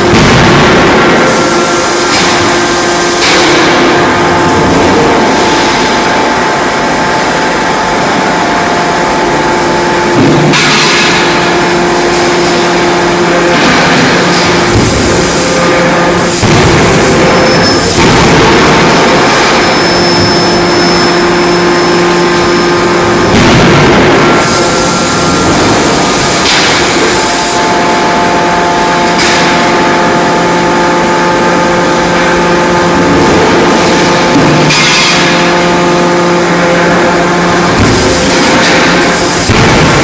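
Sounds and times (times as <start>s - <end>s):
forging hammer machine hiss and hum: 0.0s - 40.0s.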